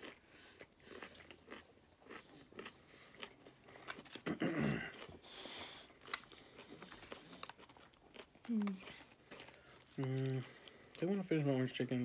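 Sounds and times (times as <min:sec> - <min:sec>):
chewing and mouth noises: 0:00.0 - 0:11.2.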